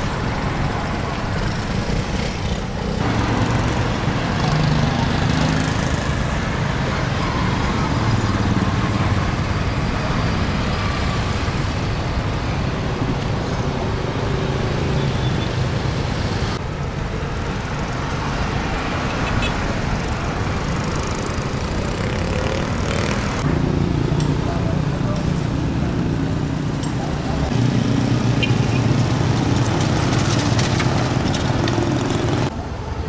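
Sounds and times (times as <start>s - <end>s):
road noise: 0.0s - 33.0s
motorcycle engines passing: 0.3s - 16.6s, 17.8s - 32.6s.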